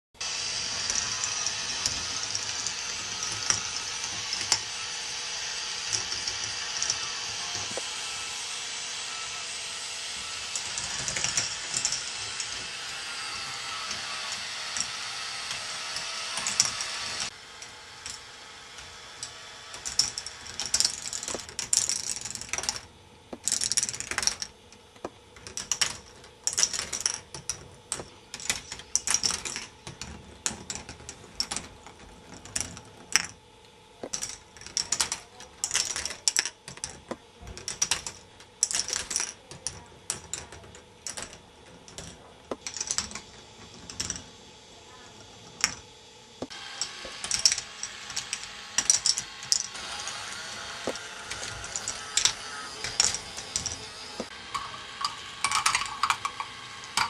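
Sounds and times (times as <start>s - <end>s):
plastic balls clattering on tracks: 0.2s - 7.8s, 10.1s - 33.4s, 34.0s - 57.0s
mechanical whir: 0.2s - 57.0s.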